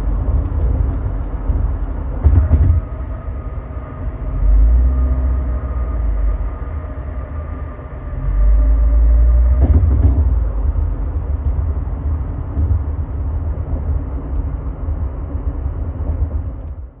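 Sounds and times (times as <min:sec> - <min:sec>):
exhaust and road rumble: 0:00.0 - 0:17.0
tires whining on concrete: 0:00.0 - 0:17.0.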